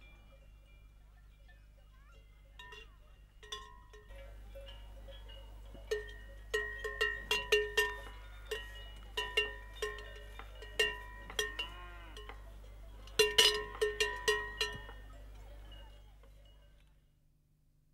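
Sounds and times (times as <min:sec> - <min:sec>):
cowbells clanking: 0:00.0 - 0:16.9.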